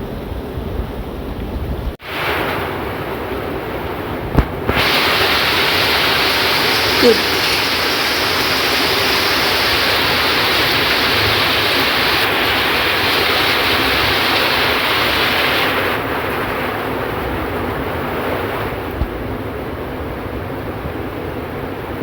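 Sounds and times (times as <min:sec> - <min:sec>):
heavy rain falling: 0:02.0 - 0:22.0.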